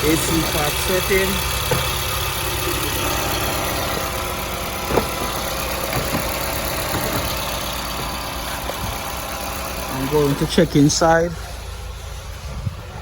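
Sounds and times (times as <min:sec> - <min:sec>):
low vehicle hum: 0:00.0 - 0:13.0.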